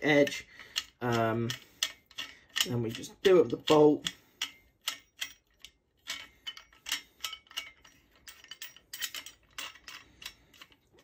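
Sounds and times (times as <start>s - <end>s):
small metal clicks: 0.2s - 11.0s.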